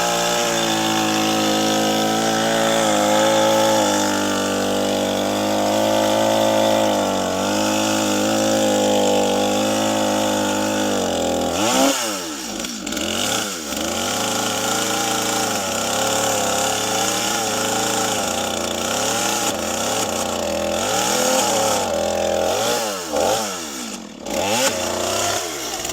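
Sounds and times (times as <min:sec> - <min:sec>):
two-stroke chainsaw running: 0:00.0 - 0:25.9.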